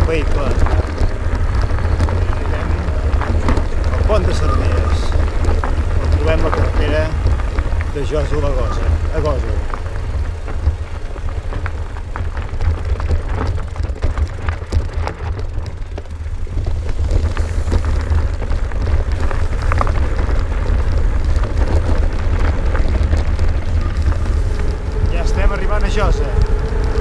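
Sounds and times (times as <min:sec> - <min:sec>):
bike rattling: 0:00.0 - 0:27.0
tyres crunching on gravel: 0:00.0 - 0:27.0
wind buffeting microphone: 0:00.0 - 0:27.0.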